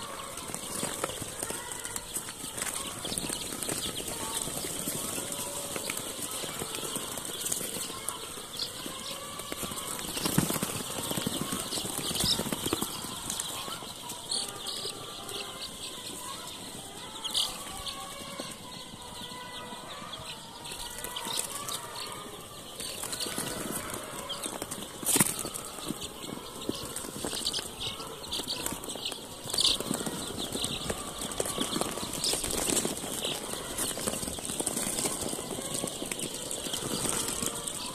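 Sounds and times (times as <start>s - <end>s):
chicks cheeping: 0.0s - 37.9s
rustling in wood shavings: 0.0s - 37.9s.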